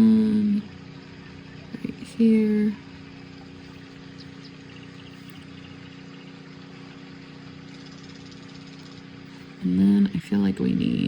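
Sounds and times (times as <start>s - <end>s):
mechanical motor hum: 0.0s - 11.0s.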